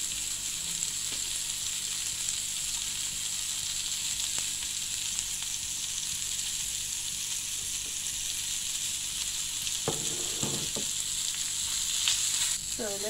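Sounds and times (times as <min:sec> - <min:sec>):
burger patties sizzling: 0:00.0 - 0:13.0.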